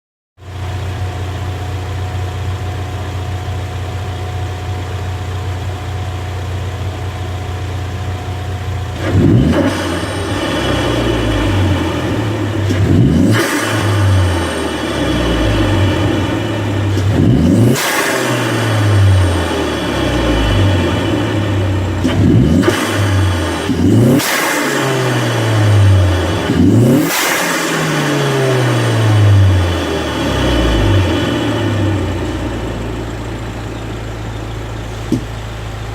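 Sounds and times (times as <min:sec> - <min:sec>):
car engine idling and revving: 0:00.4 - 0:35.9.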